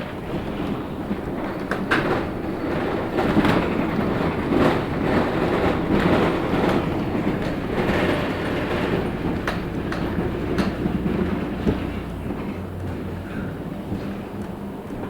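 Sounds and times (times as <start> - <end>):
bus engine and road rumble: 0.0 - 15.0
bus interior knocks and rattles: 0.0 - 15.0.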